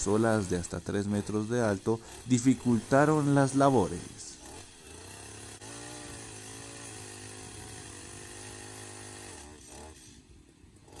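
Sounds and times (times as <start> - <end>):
chainsaw cutting branch: 0.0 - 11.0.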